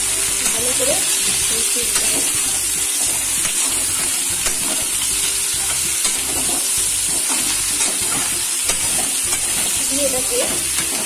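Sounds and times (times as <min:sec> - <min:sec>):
vegetables sizzling in oil: 0:00.0 - 0:11.0
metal spatula scraping: 0:00.3 - 0:11.0.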